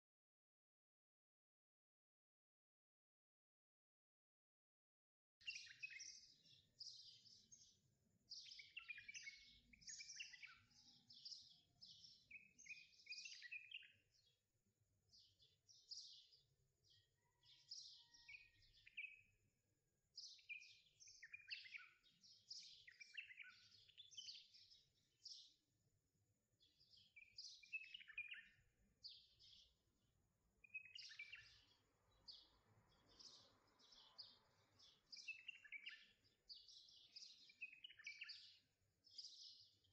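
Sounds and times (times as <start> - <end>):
faint songbirds chirping: 5.4 - 39.9.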